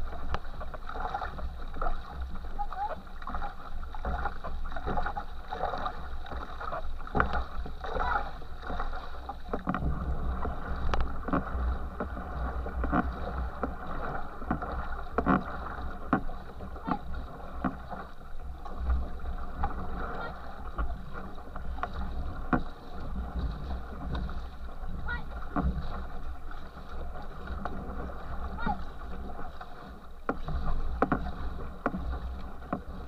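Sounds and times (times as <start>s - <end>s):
wake rushing and churning: 0.0s - 33.0s
water buffeting microphone: 0.0s - 33.0s
water splashing on camera: 0.0s - 33.0s.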